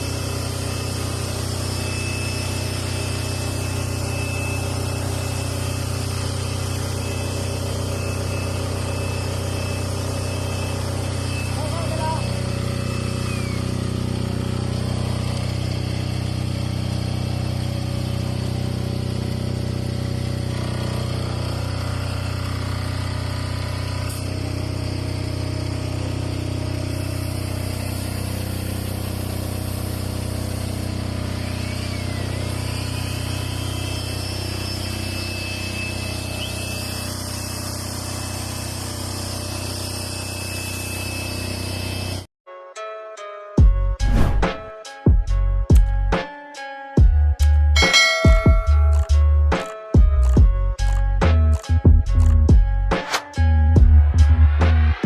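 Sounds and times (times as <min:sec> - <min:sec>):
diesel generator engine running: 0:00.0 - 0:42.3, 0:47.0 - 0:55.0.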